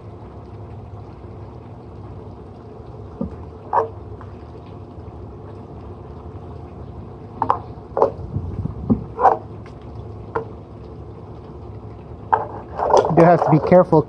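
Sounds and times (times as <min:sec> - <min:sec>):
steady low hum: 0:00.0 - 0:14.0
water plopping and splashing: 0:00.3 - 0:14.0.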